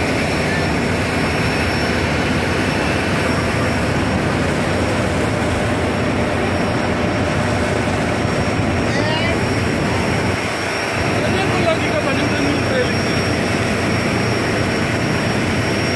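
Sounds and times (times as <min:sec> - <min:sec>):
propeller wash churning: 0:00.0 - 0:15.9
ship engines droning: 0:00.0 - 0:15.9.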